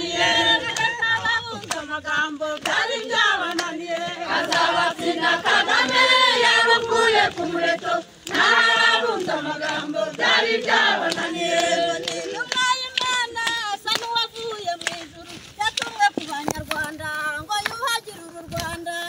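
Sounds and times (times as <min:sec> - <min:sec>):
crowd singing: 0:00.0 - 0:17.5.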